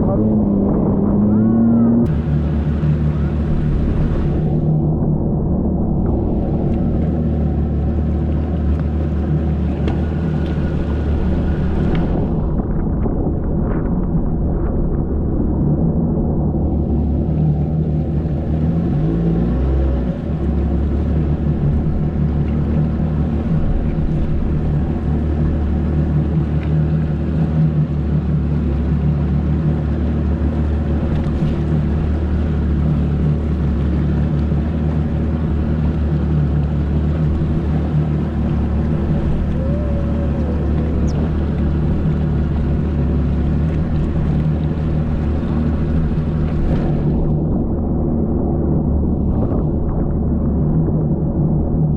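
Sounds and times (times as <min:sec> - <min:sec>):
jet ski engine running: 0:00.0 - 0:51.9.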